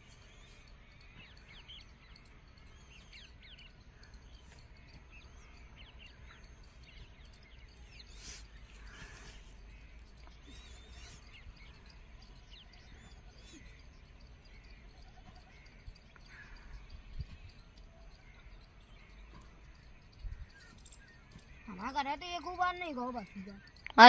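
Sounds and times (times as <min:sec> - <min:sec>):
small bird chirps: 0:00.0 - 0:24.0.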